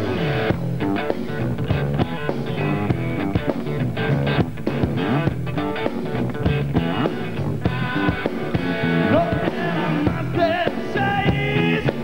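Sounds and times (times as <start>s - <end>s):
drums playing a steady beat: 0.0s - 12.0s
electric bass: 0.0s - 12.0s
electric guitar bending melody: 0.0s - 12.0s.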